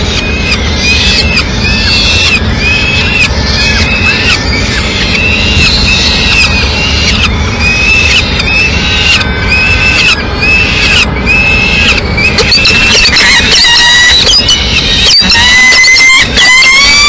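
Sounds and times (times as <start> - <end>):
city traffic rumble: 0.0 - 17.0
falcons calling: 0.0 - 17.0.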